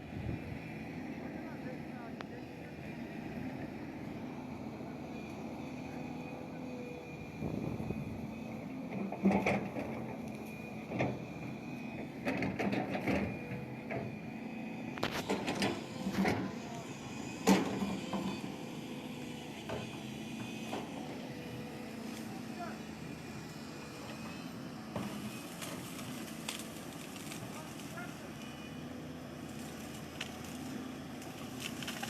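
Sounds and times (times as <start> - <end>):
excavator engine whine: 0.0 - 32.0.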